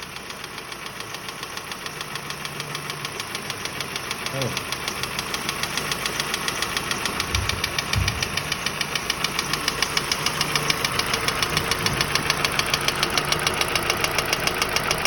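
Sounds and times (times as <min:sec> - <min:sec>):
car engine running with knock: 0:00.0 - 0:15.0.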